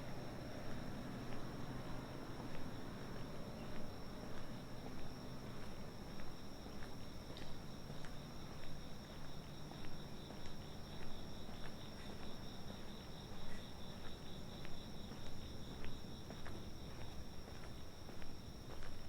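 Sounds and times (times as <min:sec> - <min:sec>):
night insects chirring: 0:00.0 - 0:19.0
footsteps walking: 0:02.3 - 0:19.0.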